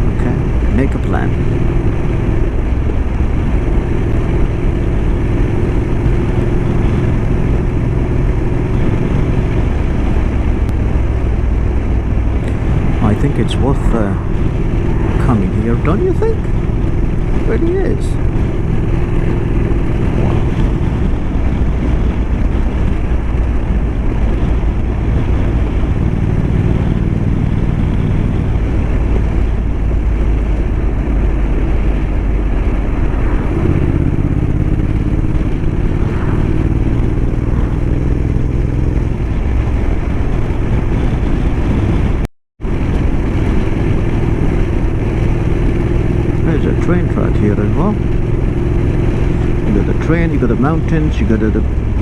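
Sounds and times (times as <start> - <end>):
motorcycle engine running: 0.0 - 52.0
wind rushing over microphone: 0.0 - 52.0.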